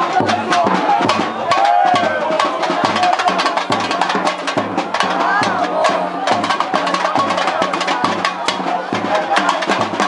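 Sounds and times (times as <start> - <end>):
bass drum beats: 0.0 - 10.0
voices singing and shouting: 0.0 - 10.0.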